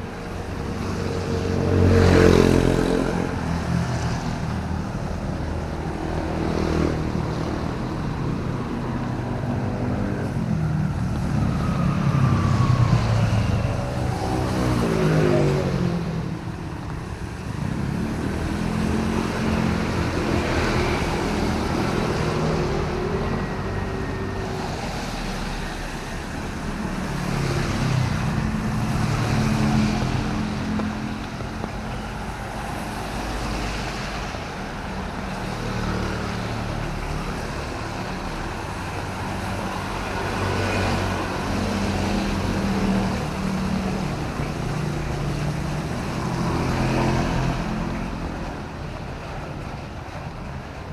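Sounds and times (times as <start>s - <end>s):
light rain: 0.0s - 50.9s
tyres hissing on wet road: 0.0s - 50.9s
vehicle engines running: 0.0s - 50.9s.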